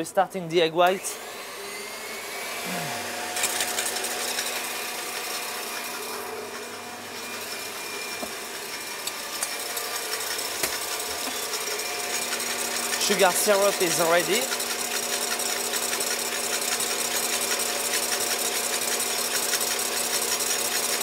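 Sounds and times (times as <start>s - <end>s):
stand mixer whipping: 1.0s - 21.0s.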